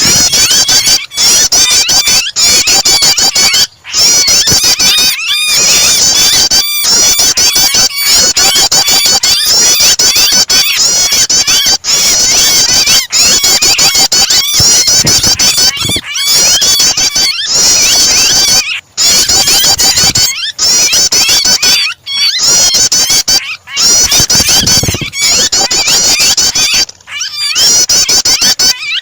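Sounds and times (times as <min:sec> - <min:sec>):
bird distress cries: 0:00.0 - 0:29.0
shrill bird chattering: 0:00.0 - 0:29.0.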